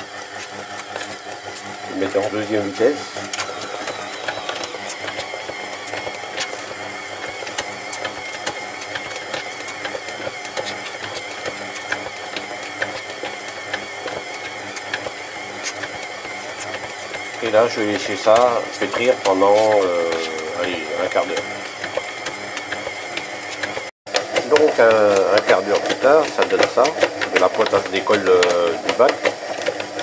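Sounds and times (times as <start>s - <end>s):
stand mixer whirring: 0.0s - 30.0s.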